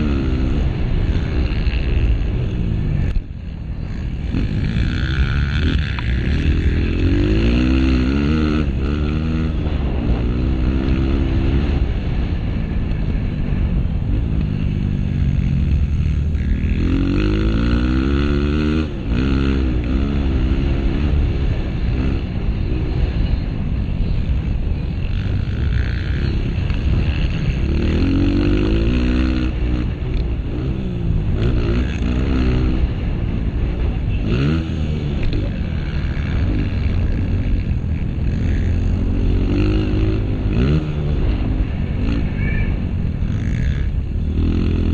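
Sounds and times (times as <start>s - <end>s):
low rumble: 0.0s - 44.9s
motorcycle engine revving: 0.0s - 44.9s.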